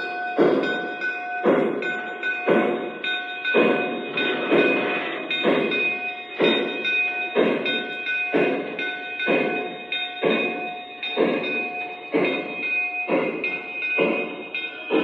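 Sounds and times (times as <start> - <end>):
slow steam chuffs: 0.0 - 15.0
steady ringing tone: 0.0 - 15.0.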